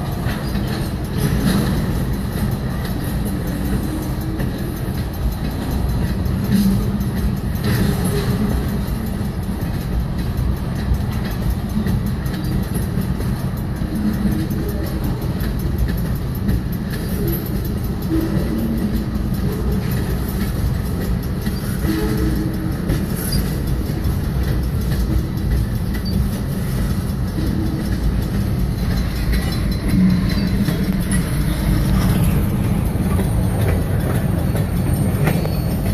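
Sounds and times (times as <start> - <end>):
clickety-clack over rail joints: 0.0 - 35.9
train wheels rumbling on rails: 0.0 - 35.9.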